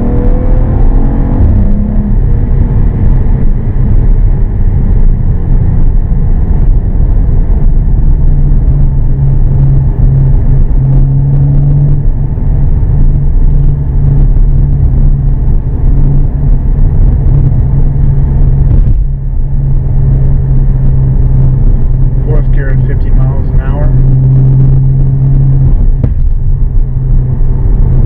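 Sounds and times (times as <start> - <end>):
car engine and road rumble: 0.0 - 28.0
low exhaust drone: 0.0 - 28.0.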